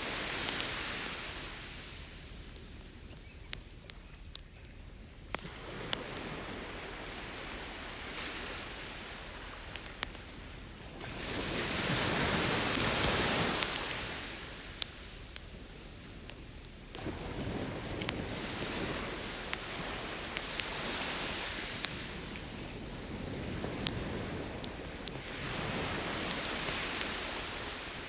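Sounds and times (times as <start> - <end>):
ocean waves on a beach: 0.0 - 3.0, 5.2 - 28.0
campfire crackling and popping: 0.0 - 28.0.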